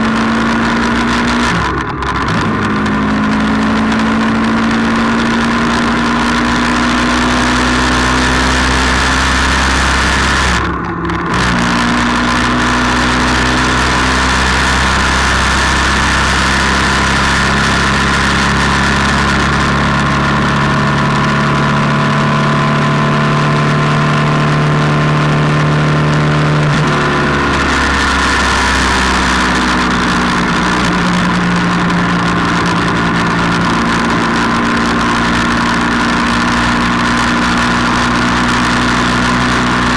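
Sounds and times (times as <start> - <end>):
vehicle engine running: 0.0 - 39.9
wind and road noise: 0.0 - 39.9.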